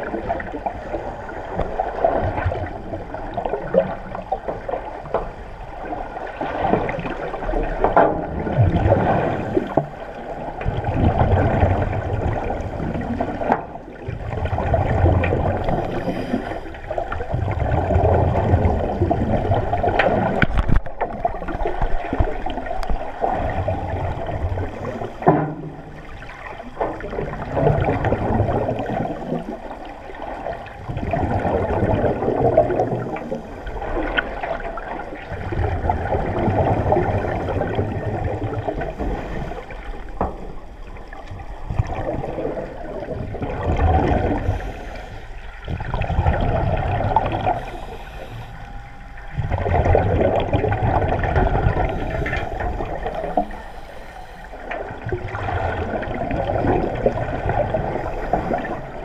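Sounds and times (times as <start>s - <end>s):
water gurgling and sloshing: 0.0s - 59.0s.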